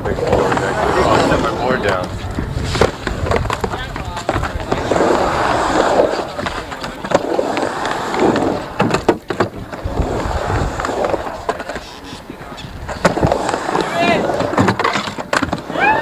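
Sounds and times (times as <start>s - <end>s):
scraping: 0.0s - 15.2s.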